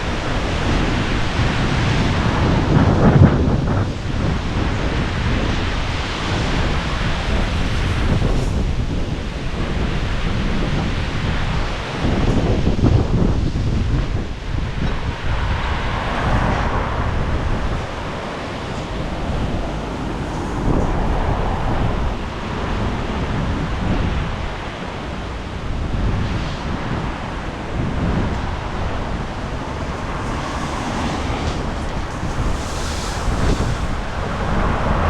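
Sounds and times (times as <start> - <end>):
storm wind buffeting microphone: 0.0 - 35.0.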